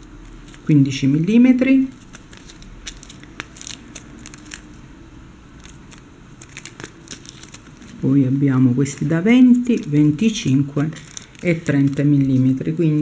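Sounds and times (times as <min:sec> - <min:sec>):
plastic bag crinkling: 0:00.0 - 0:04.9, 0:05.5 - 0:13.0.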